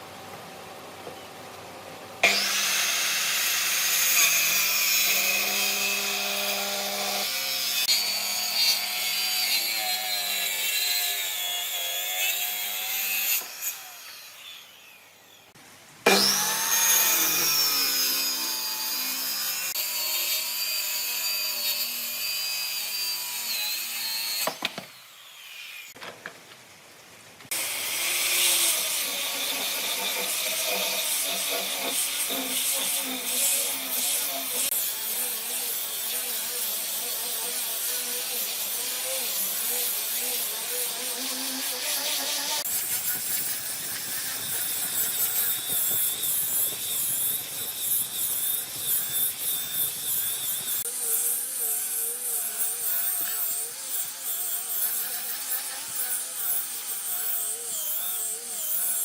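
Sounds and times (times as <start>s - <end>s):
electric power tool cutting wood: 2.2s - 26.0s, 27.5s - 59.0s.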